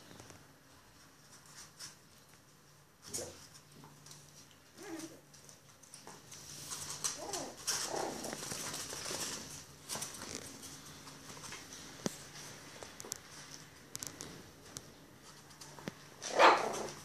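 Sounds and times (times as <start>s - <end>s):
small paws clicking on floor: 0.0s - 17.0s.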